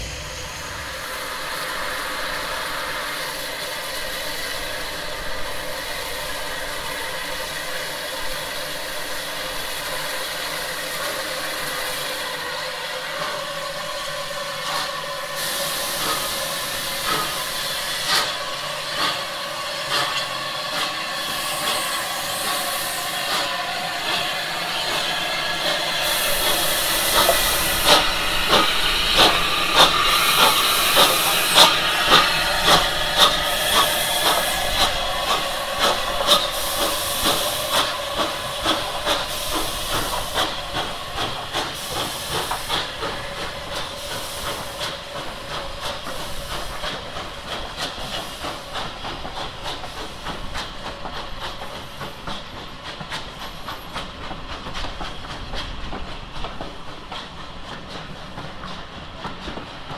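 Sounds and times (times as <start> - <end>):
steam locomotive beats: 0.0 - 59.9
steam locomotive hissing steam: 0.0 - 59.9.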